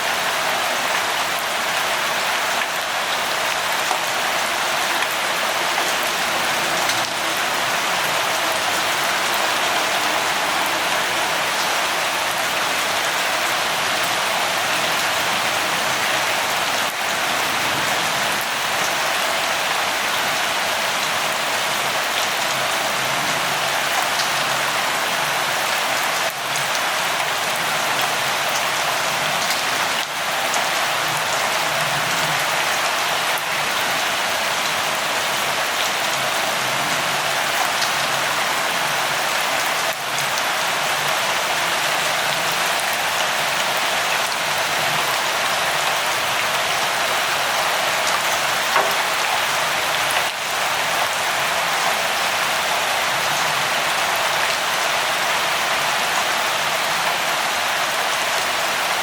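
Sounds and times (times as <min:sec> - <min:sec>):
light rainfall: 0:00.0 - 0:59.0.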